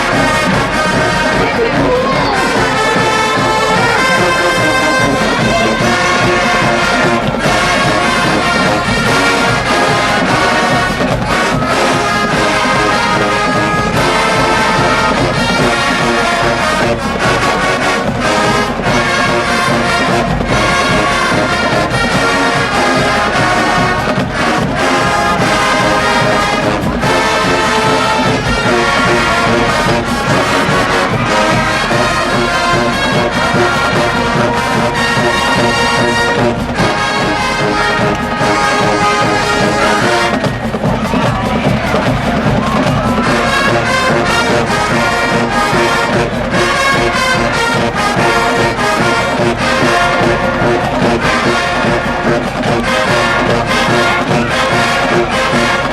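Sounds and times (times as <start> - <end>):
drumline percussion: 0.0 - 55.9
loud brass: 0.0 - 55.9
marching band playing: 0.0 - 55.9.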